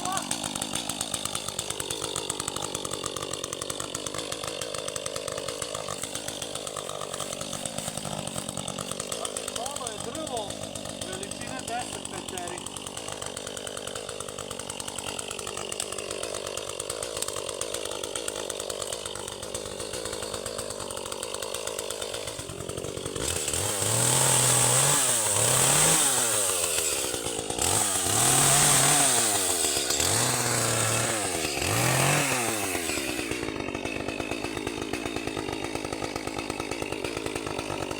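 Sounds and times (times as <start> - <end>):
chainsaw idling and revving: 0.0 - 37.9.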